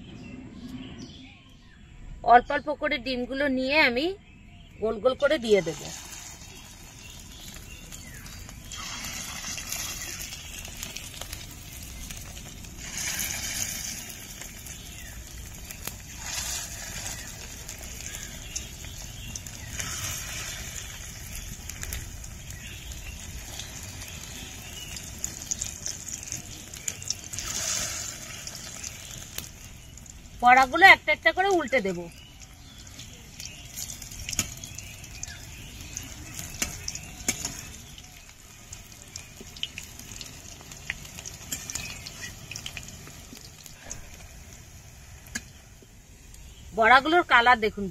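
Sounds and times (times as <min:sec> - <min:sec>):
oil crackling: 0:05.3 - 0:46.8
batter sizzling in hot oil: 0:05.3 - 0:47.6.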